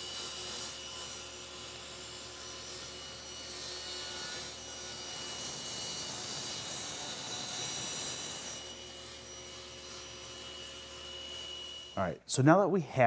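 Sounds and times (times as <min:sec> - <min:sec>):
table saw running: 0:00.0 - 0:12.0.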